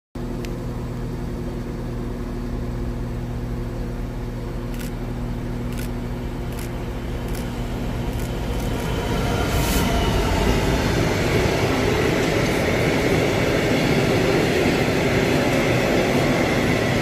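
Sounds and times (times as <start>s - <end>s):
train droning hum: 0.2s - 17.0s.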